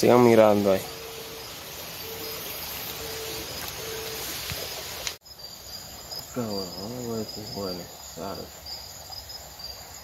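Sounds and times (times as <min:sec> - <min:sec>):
insects chirring: 0:00.0 - 0:10.0
outdoor hiss: 0:00.0 - 0:10.0.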